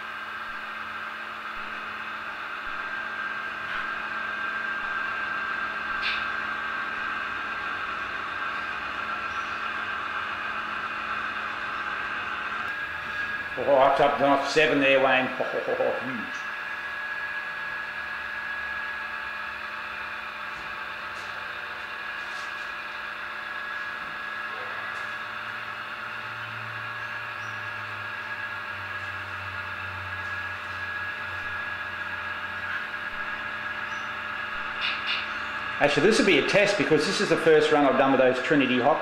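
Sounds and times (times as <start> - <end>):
constant high whine: 0.0 - 39.0
model train electric hum: 0.0 - 39.0.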